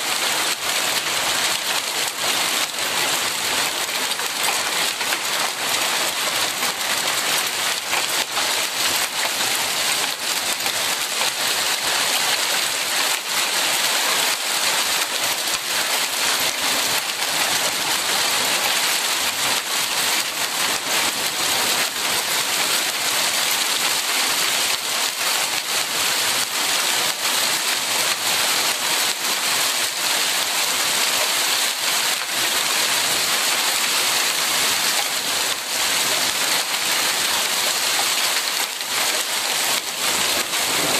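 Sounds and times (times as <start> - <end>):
hail and rain on wooden deck: 0.0 - 40.9.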